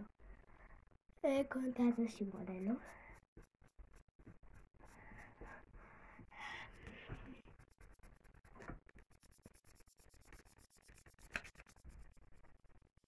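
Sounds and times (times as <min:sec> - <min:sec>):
pencil scratching on paper: 0:01.8 - 0:12.8.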